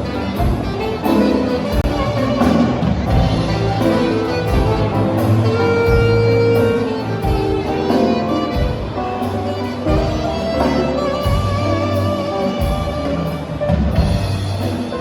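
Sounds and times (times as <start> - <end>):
steady low beat: 0.0 - 14.7.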